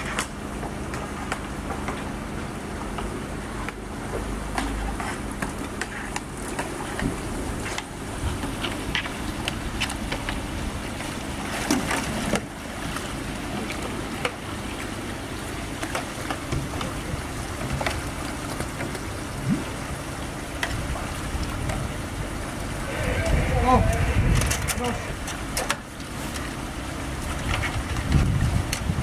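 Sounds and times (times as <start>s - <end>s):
water rushing into culvert: 3.4s - 29.0s.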